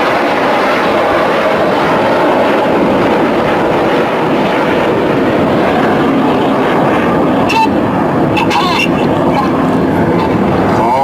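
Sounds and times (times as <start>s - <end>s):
jet noise overhead: 0.0s - 11.0s.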